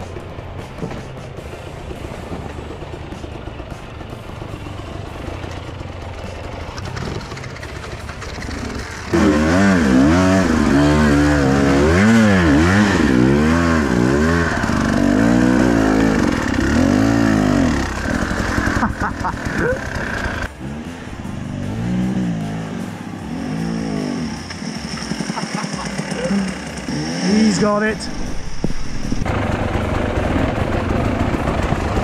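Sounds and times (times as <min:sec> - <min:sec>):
dirt bike engine revving: 0:05.3 - 0:32.0.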